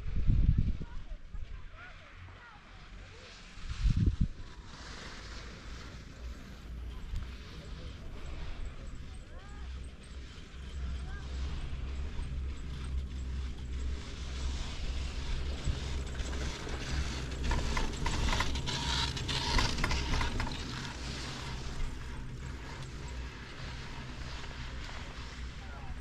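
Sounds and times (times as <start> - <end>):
steady low rumble: 3.1 - 26.0
chairlift clicks and rattles: 4.7 - 25.9.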